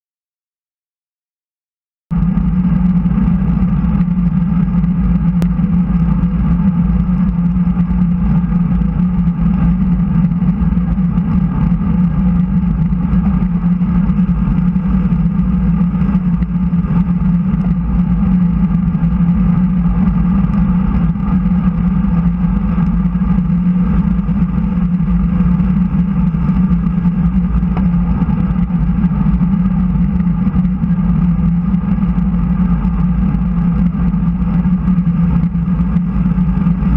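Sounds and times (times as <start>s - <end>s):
bicycle tyre rumble on asphalt: 2.1s - 36.9s
wind rush: 2.2s - 36.9s.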